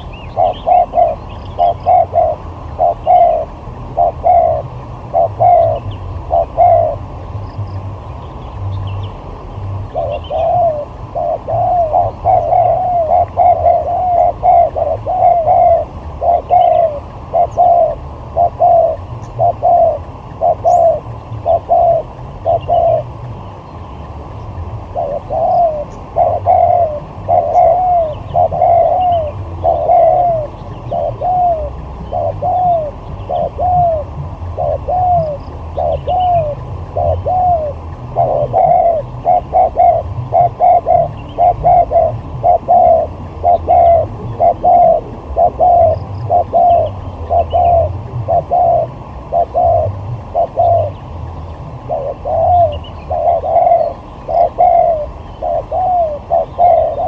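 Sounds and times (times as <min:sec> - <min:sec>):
doves cooing: 0:00.0 - 0:57.0
small birds chirping: 0:00.0 - 0:57.0
steady low rumble: 0:00.0 - 0:57.0.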